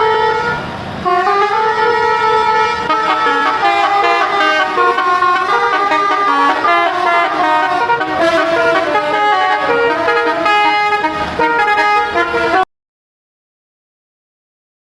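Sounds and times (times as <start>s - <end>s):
bus horns playing tunes: 0.0s - 12.7s.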